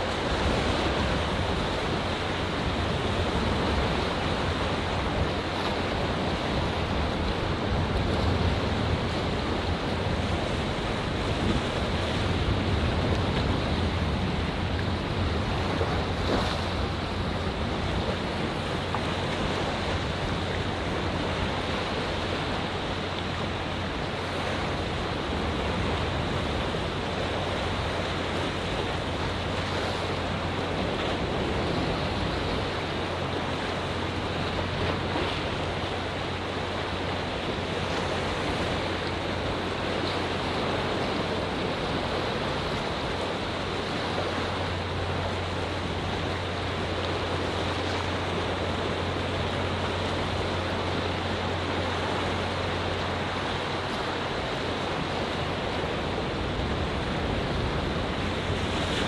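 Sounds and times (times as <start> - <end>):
ocean waves washing among rocks: 0.0 - 59.0.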